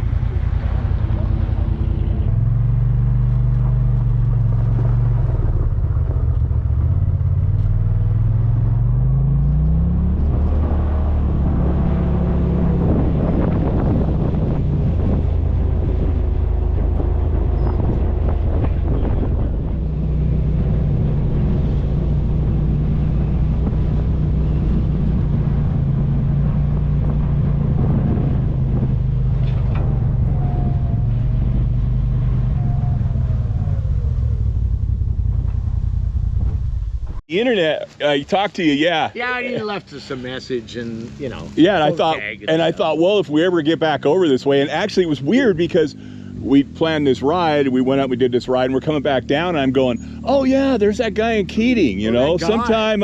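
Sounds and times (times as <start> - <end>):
utility vehicle engine running: 0.0 - 53.0.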